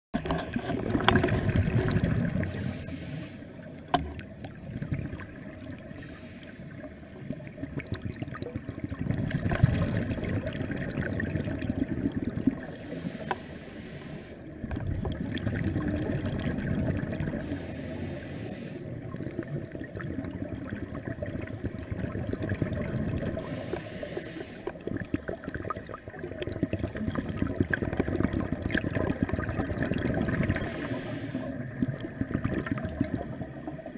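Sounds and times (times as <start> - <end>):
underwater exhaled bubbles: 0.2 - 33.9.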